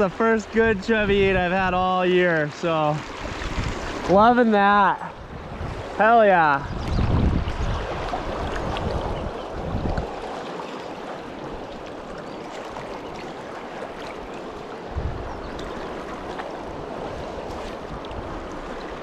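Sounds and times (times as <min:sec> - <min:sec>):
river water rushing: 0:01.7 - 0:19.0.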